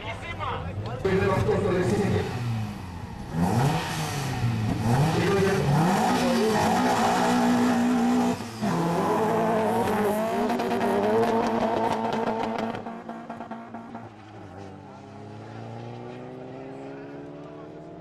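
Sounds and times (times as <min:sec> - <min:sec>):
cars revving at high revs: 0:01.0 - 0:18.0.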